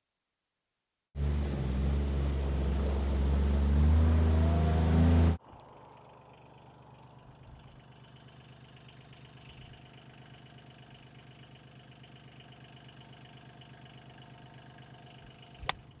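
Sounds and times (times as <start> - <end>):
utility vehicle engine idling: 1.2 - 16.0.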